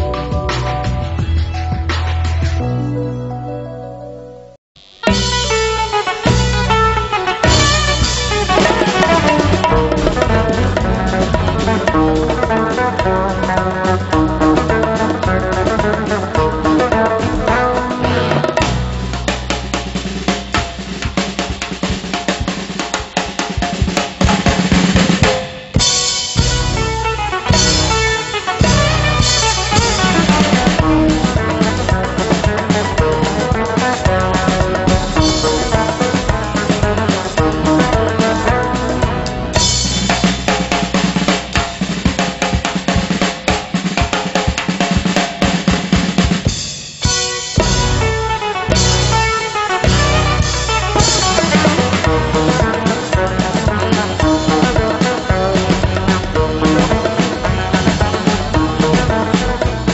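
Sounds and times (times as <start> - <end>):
drum kit break: 0.0 - 3.0, 4.8 - 59.9.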